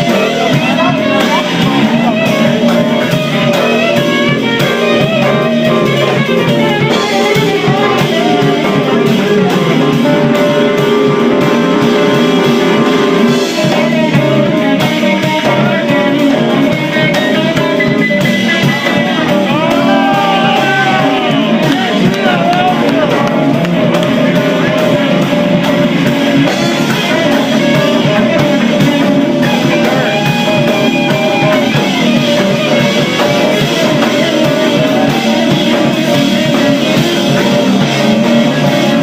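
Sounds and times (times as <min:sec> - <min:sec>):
drums: 0:00.0 - 0:39.0
guitar: 0:00.0 - 0:39.0
live band music: 0:00.0 - 0:39.0.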